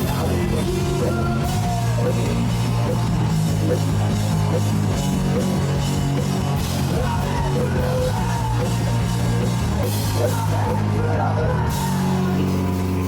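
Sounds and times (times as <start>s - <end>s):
low bass notes: 0.0s - 13.0s
rock band playing live: 0.0s - 13.0s.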